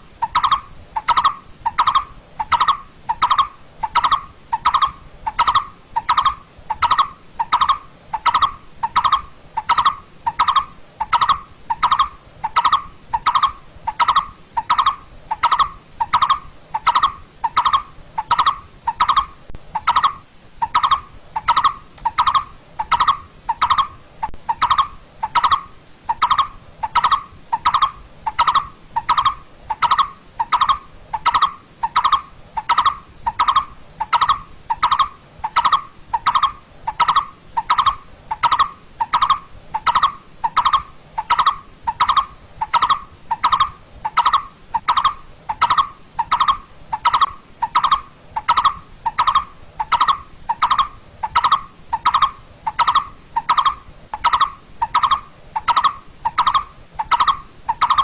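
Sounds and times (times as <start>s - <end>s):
bird calling hollow tuk notes: 0.2s - 58.0s.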